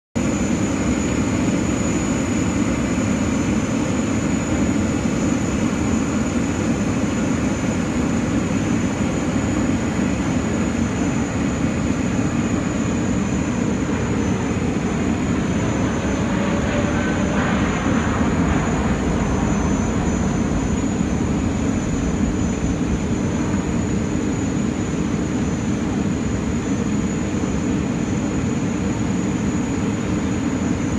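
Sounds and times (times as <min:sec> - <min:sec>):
jet engines rumbling: 0:00.2 - 0:30.9
faint falling whine: 0:00.4 - 0:30.8.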